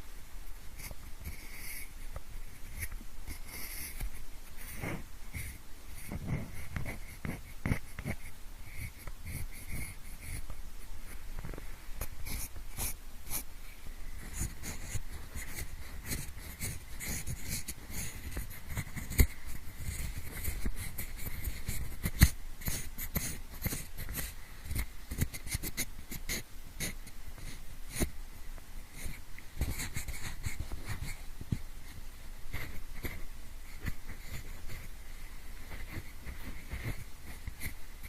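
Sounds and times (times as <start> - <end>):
pencil scratching on microphone: 0.8 - 11.2, 12.0 - 13.5, 14.2 - 28.2, 28.9 - 34.9, 35.6 - 37.8.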